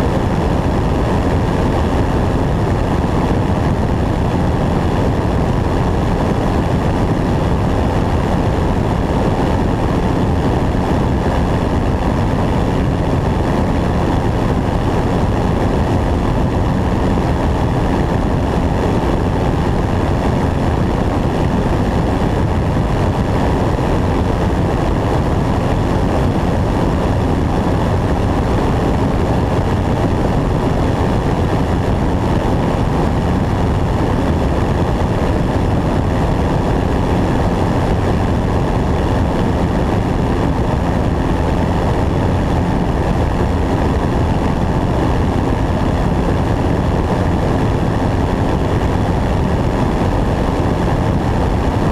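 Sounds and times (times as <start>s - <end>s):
propeller airplane engine drone: 0.0s - 51.9s.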